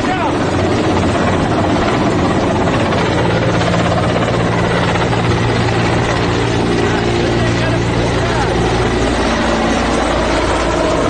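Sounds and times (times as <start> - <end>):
helicopter hovering: 0.0 - 11.0
steady rushing noise: 0.0 - 11.0.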